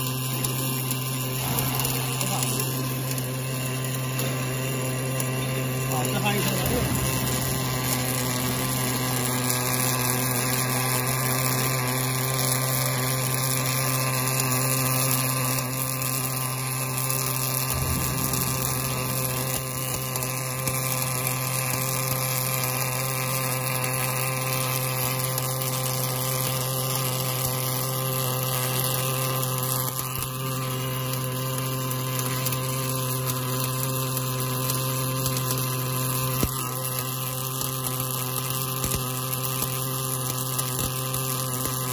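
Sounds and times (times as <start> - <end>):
arc welder humming and hissing: 0.0 - 41.9.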